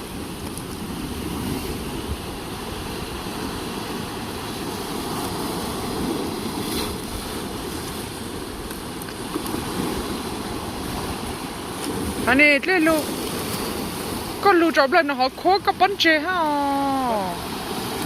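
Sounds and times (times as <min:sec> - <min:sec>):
surf washing on shore: 0:00.0 - 0:18.0.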